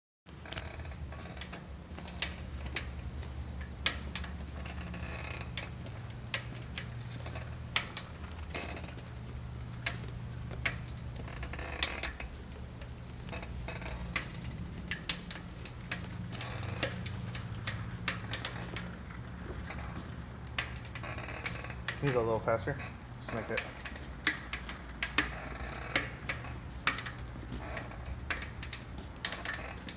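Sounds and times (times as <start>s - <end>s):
gear hub clicking: 0.3s - 22.6s, 23.3s - 29.9s.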